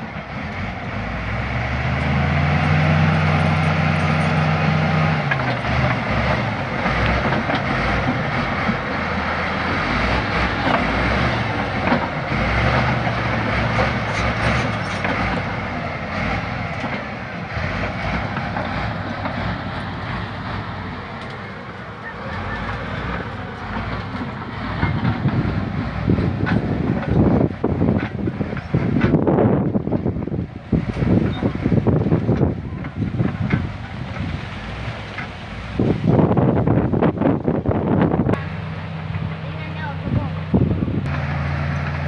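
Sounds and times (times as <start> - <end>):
steel tracks clattering: 0.0 - 40.5
diesel engine running: 0.0 - 42.0.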